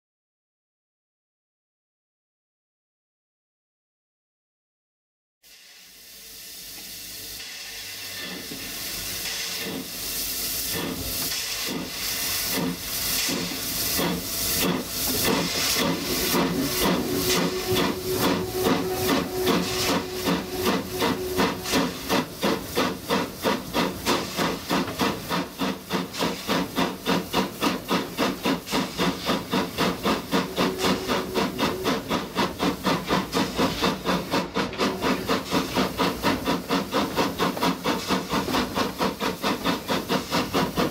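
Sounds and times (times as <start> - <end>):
steam hiss: 5.4 - 40.9
steam engine exhaust chuffs: 6.8 - 40.9.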